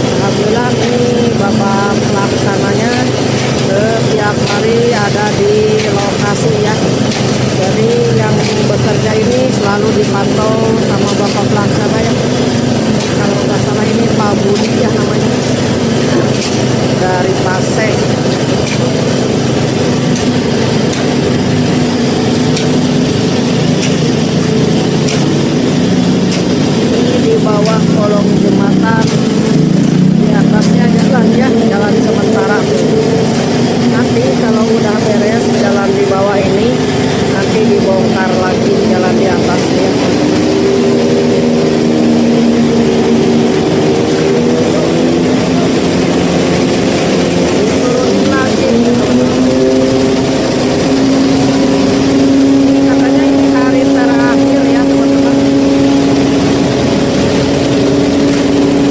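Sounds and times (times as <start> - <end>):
engine running steadily: 0.0 - 58.9
loud rushing noise: 0.0 - 58.9.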